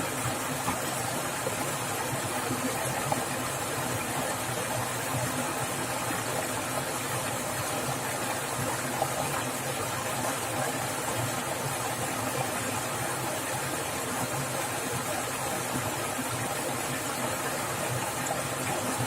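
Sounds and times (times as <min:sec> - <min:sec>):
fast-flowing water splashing: 0:00.0 - 0:19.0.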